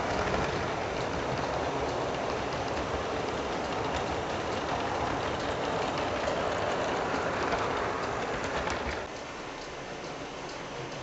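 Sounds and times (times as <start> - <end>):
model train whirring: 0.0 - 11.0
wheels clicking on rail: 0.0 - 11.0.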